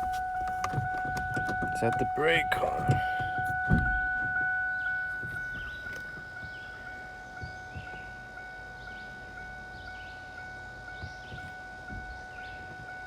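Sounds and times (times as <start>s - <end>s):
electronic warning chime: 0.0s - 13.0s
steady electronic tone: 0.0s - 13.0s.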